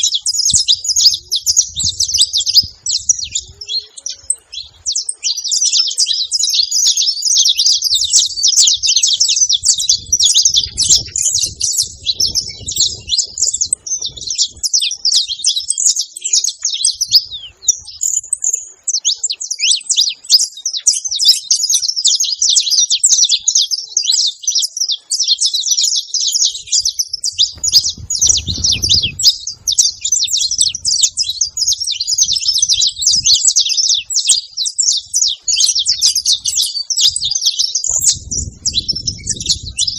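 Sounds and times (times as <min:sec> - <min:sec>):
finch singing high chirps: 0:00.0 - 0:39.9.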